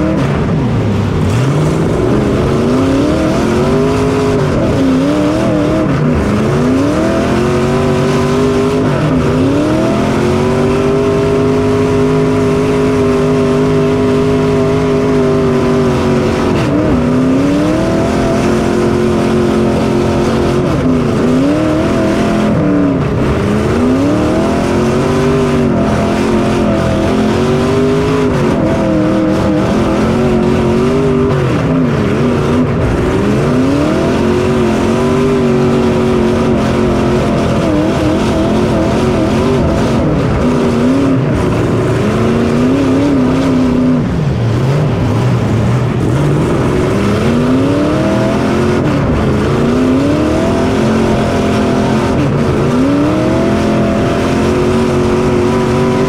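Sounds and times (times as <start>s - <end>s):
race engine revving: 0.0s - 56.0s.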